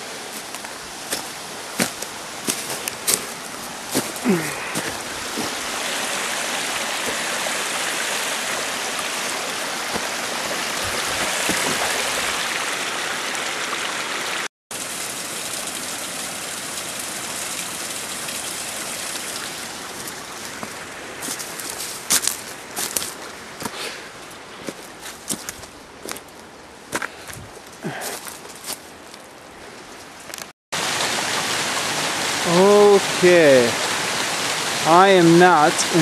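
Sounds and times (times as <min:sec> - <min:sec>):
small waterfall splashing: 0:00.0 - 0:25.5, 0:30.7 - 0:36.0.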